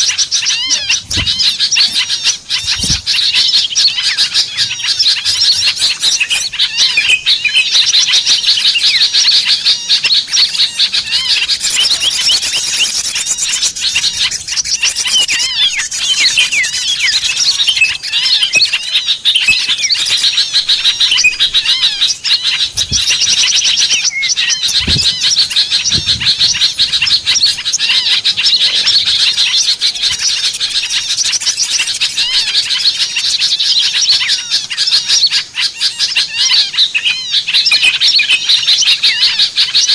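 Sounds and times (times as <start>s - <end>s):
flock of songbirds chirping: 0.0s - 39.9s.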